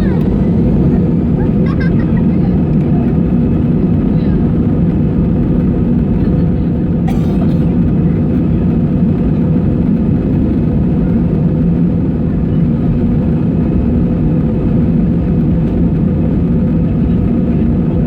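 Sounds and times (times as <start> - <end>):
jet engines heard in cabin: 0.0 - 18.0.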